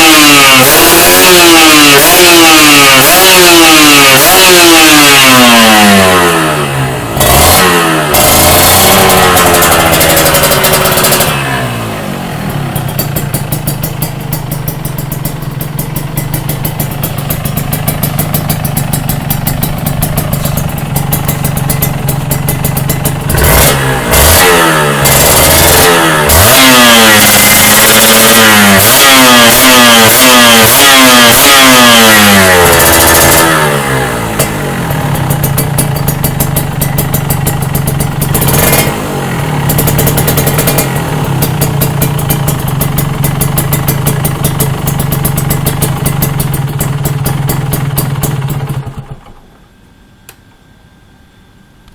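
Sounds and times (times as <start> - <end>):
two-stroke motorcycle engine revving: 0.0 - 49.4.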